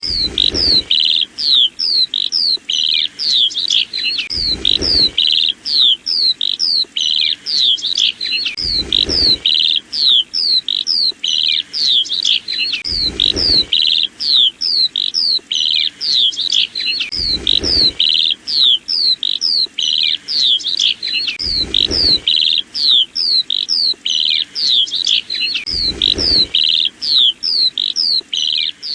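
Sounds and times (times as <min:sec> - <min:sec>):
lark singing: 0:00.0 - 0:28.9.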